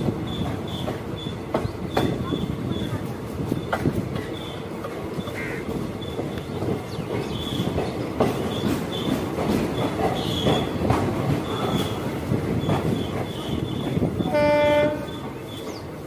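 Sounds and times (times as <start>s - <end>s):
train coaches rumbling: 0.0s - 16.0s.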